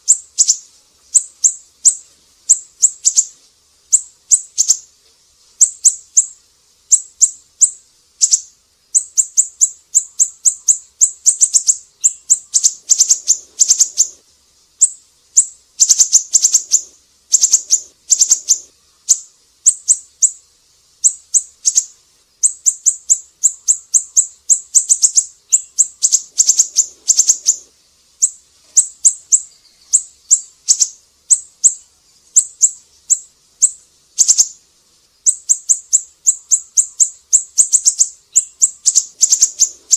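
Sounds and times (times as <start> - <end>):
bird chirping: 0.0 - 4.9, 5.6 - 14.2, 14.8 - 39.9.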